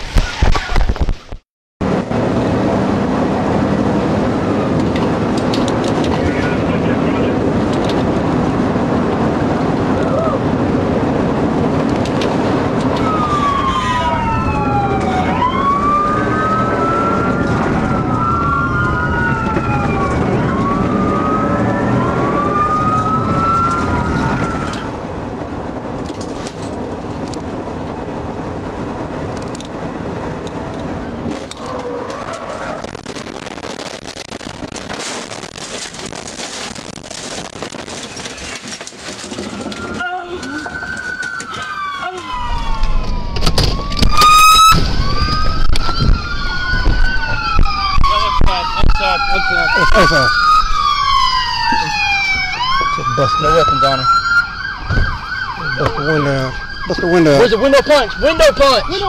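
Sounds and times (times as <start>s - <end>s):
engine and road rumble: 0.0s - 59.0s
police siren wailing: 1.9s - 34.6s, 35.3s - 59.0s.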